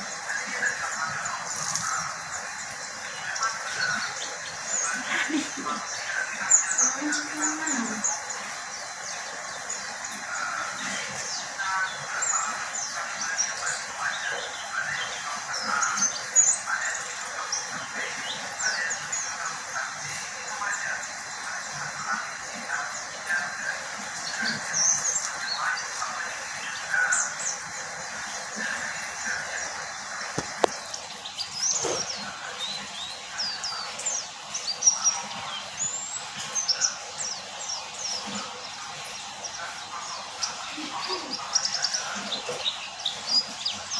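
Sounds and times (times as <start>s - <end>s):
bird chirping and twittering: 0.0s - 43.9s.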